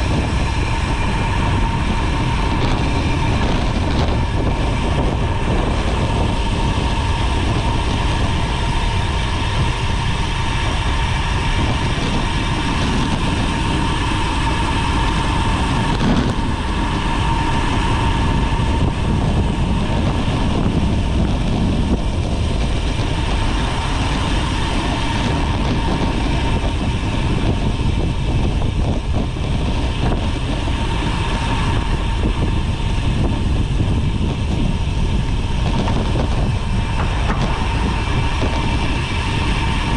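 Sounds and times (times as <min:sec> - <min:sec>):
faint steady whine: 0:00.0 - 0:39.9
wind and tyre rumble: 0:00.0 - 0:39.9.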